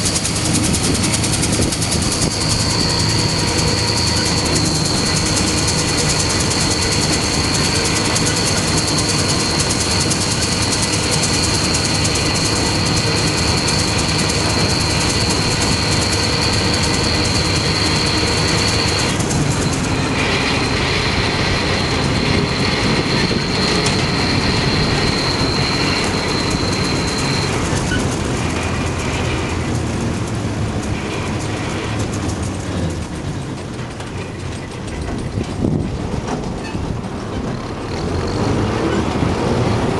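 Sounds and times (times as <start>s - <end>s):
steady high whine: 0.0s - 38.6s
combine threshing machinery: 0.0s - 39.9s
tractor diesel engine: 0.0s - 39.9s.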